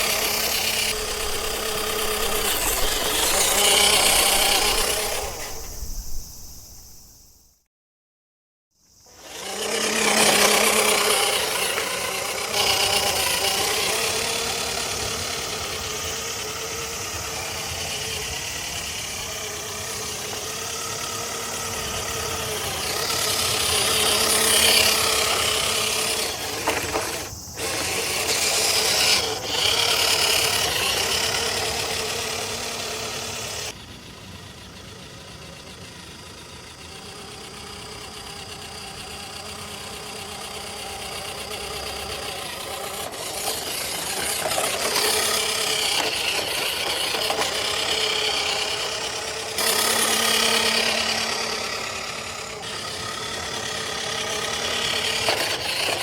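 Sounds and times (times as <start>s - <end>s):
tyres rattling over rough ground: 0.0s - 7.0s, 9.3s - 56.0s
electric motor and gears whining: 0.0s - 7.5s, 8.9s - 56.0s.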